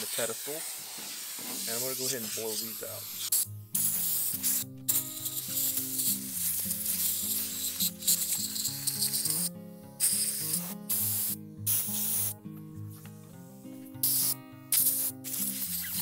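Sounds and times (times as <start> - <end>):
compressed air bursts: 0.0 - 12.4, 13.9 - 16.0.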